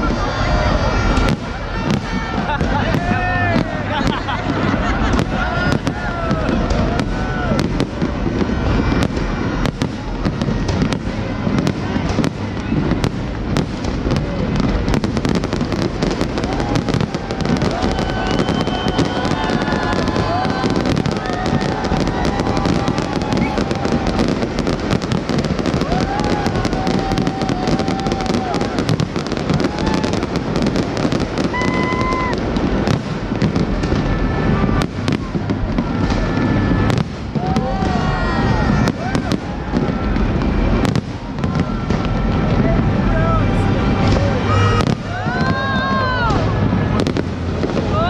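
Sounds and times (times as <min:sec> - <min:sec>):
fireworks bangs and crackling: 0:00.0 - 0:48.0
high firework whistle: 0:00.0 - 0:48.0.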